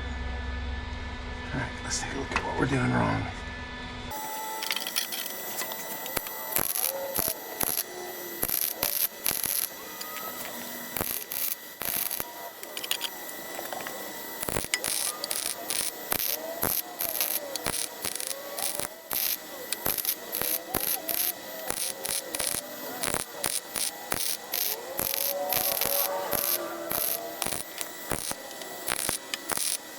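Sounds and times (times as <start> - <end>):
welder arc crackling: 4.1 - 29.9.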